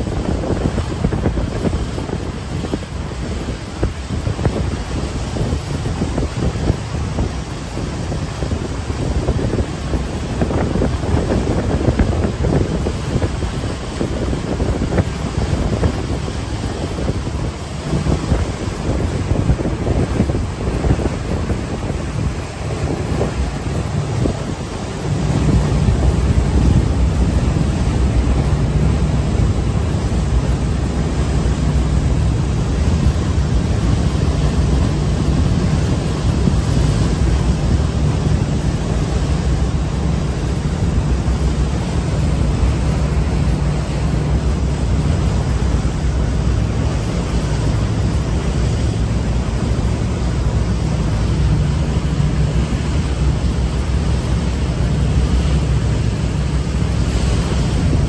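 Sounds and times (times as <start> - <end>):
boat engine drone: 0.0 - 58.0
water rushing: 0.0 - 58.0
wind buffeting microphone: 0.0 - 58.0.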